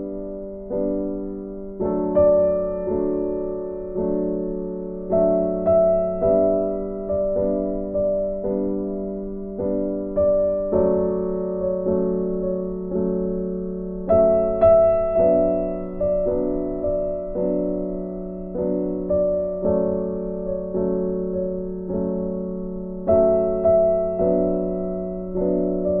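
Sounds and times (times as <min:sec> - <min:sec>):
slow piano piece: 0:00.0 - 0:26.0.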